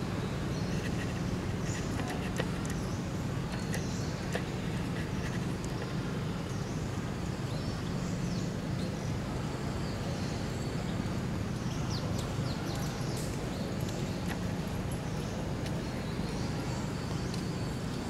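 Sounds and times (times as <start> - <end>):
low outdoor background rumble: 0.0 - 18.0.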